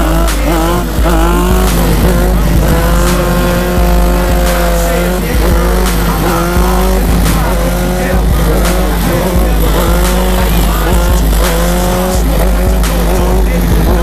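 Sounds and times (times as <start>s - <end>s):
deep bass line: 0.0s - 14.0s
motorcycle engine revving: 0.0s - 14.0s.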